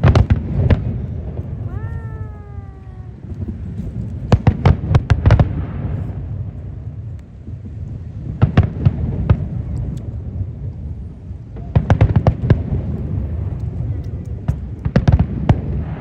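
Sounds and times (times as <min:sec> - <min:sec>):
fireworks sharp bangs: 0:00.0 - 0:10.7, 0:11.5 - 0:16.0
low rumble of firework bursts: 0:00.0 - 0:16.0.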